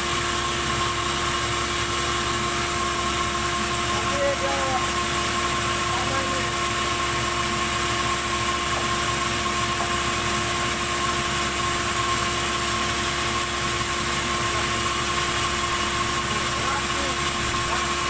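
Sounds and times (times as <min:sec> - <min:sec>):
saw motor whining: 0:00.2 - 0:18.0.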